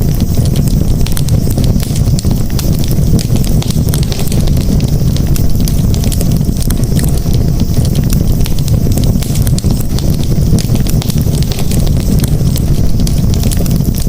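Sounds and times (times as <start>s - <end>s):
campfire crackling and popping: 0.0s - 14.0s
steady low rumble: 0.0s - 14.0s.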